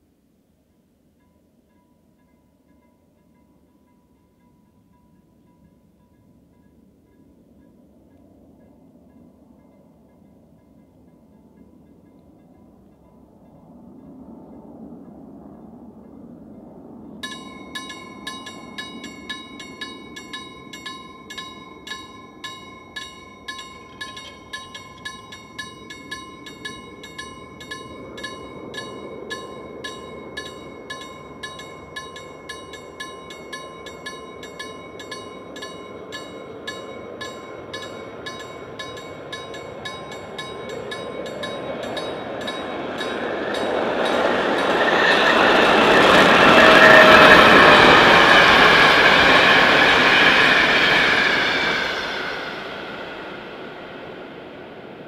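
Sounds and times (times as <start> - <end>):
approaching train rumble: 0.6 - 55.0
level crossing warning bell: 0.7 - 14.1, 17.2 - 54.1.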